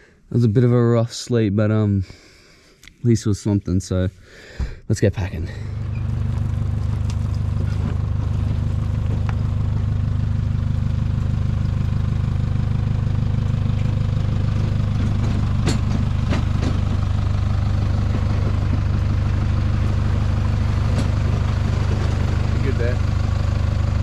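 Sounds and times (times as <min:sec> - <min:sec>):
engine idling: 0:04.2 - 0:24.0.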